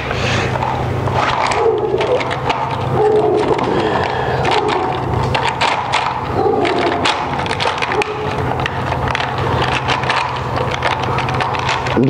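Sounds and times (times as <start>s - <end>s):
plastic syringes clicking and rattling: 0.5s - 12.0s.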